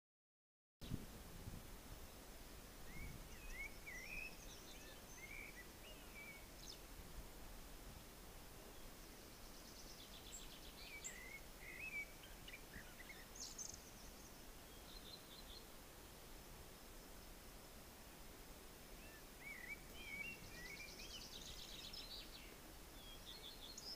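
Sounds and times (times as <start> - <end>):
low background hiss: 0.8 - 23.9
songbirds twittering: 2.0 - 6.9, 8.6 - 23.9.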